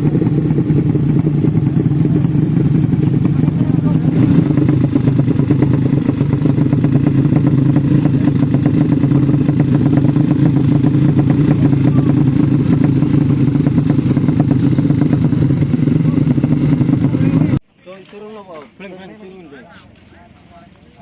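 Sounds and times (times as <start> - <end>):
motorcycle engines running loudly: 0.0 - 17.6.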